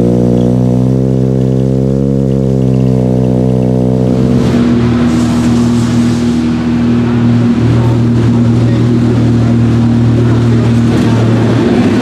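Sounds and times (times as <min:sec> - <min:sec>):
race car engine running steadily: 0:00.0 - 0:12.0.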